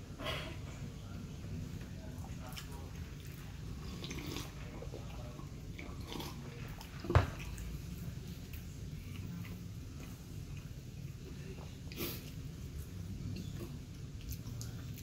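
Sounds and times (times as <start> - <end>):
man drinking and chewing: 1.8 - 15.0.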